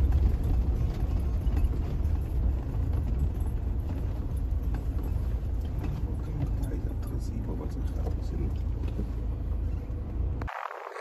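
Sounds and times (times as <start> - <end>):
engine and tyres rumbling on sand: 0.0 - 11.0.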